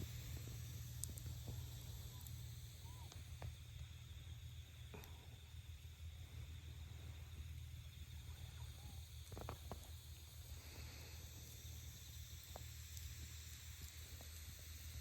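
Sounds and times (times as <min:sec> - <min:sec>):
campfire crackling: 0:00.0 - 0:15.0
light hiss: 0:00.0 - 0:15.0
steady low hum: 0:00.0 - 0:15.0.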